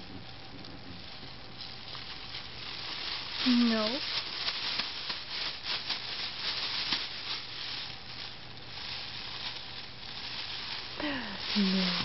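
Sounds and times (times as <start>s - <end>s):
plastic bag crinkling: 0.6s - 12.0s.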